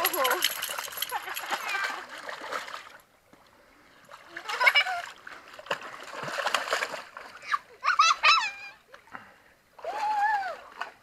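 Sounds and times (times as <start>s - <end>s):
water splashing in a creek: 0.0s - 11.0s.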